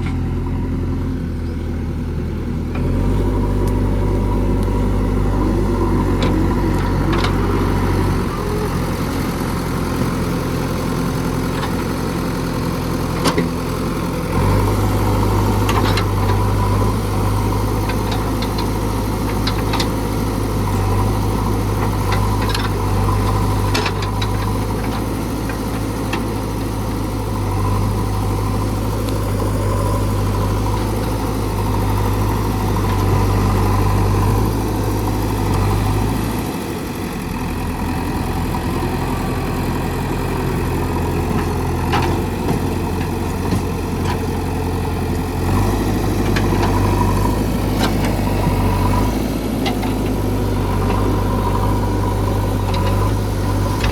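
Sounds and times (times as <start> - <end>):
backhoe diesel engine running: 0.0 - 53.9.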